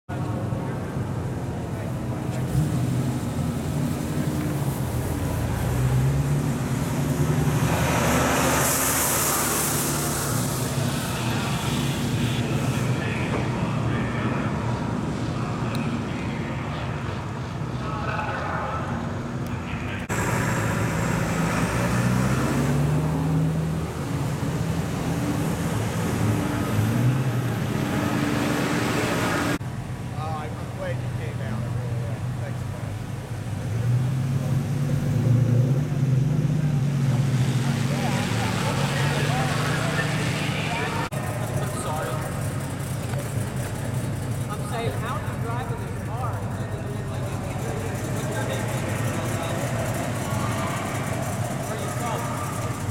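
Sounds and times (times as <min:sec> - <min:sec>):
truck engine at low revs: 0:00.1 - 0:52.9.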